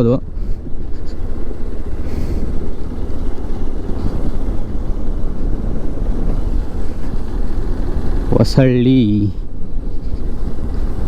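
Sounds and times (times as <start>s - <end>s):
motorcycle engine and road rumble: 0.0s - 11.0s
wind buffeting the microphone: 0.0s - 11.0s.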